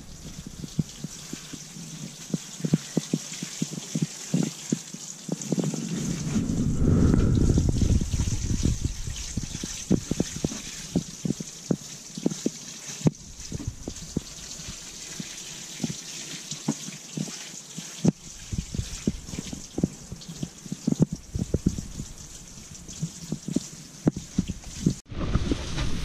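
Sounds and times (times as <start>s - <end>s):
water sprinkling onto soil: 0.0s - 6.4s, 7.6s - 25.8s.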